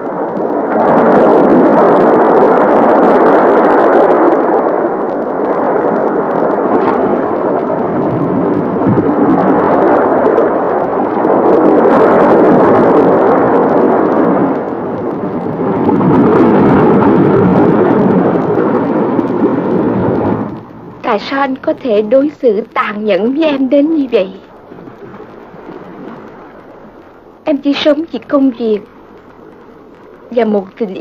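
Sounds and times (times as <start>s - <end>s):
surf breaking on rocky shore: 0.0s - 31.0s.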